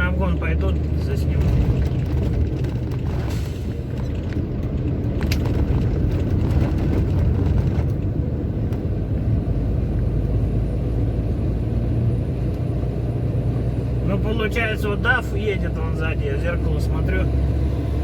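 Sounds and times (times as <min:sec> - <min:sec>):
diesel engine rumble: 0:00.0 - 0:18.0
road noise: 0:00.0 - 0:18.0.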